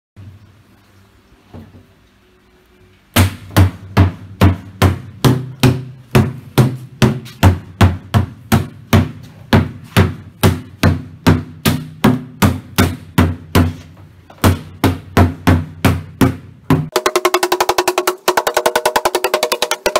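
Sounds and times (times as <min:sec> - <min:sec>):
rubber mallet striking plastic mould: 0:03.2 - 0:13.8, 0:14.4 - 0:19.9.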